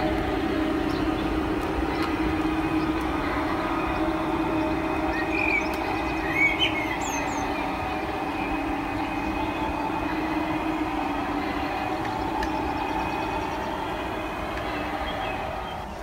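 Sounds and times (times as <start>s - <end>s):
electric motor hum: 0.0s - 15.9s
train wheels rolling on rails: 0.0s - 16.0s.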